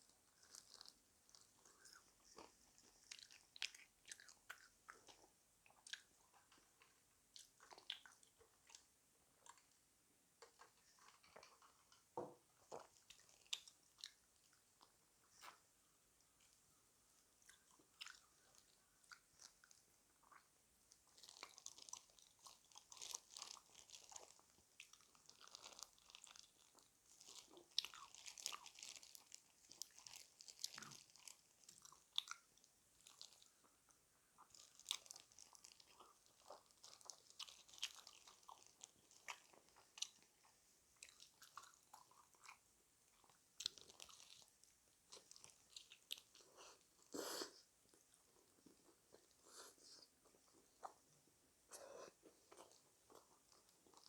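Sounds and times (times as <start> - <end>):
crunching and chewing fried chicken: 0.0 - 54.0.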